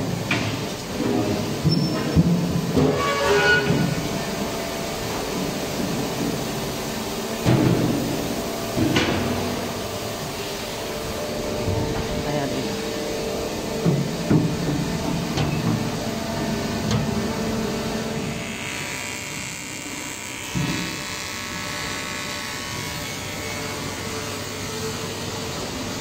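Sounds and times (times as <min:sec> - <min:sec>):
high machine whine: 0:00.0 - 0:26.0
machines humming: 0:00.0 - 0:26.0.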